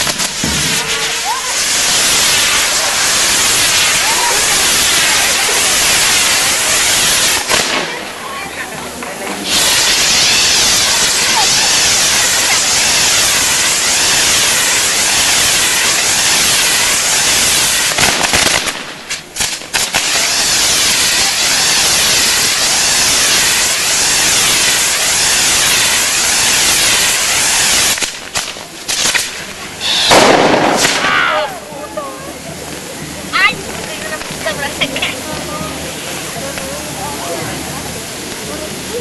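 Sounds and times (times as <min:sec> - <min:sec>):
fireworks burning with dense hiss: 0:00.0 - 0:39.0.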